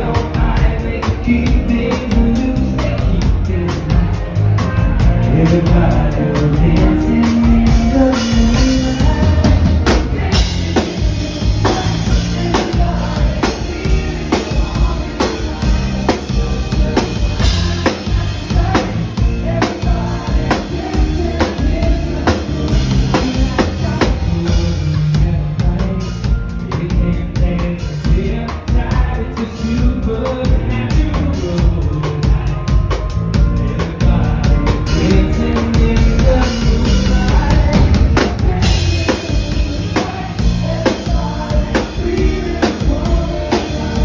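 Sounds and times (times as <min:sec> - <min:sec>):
drum kit beat: 0:00.0 - 0:44.0
live band playing: 0:00.0 - 0:44.0
man singing into microphone: 0:00.0 - 0:44.0.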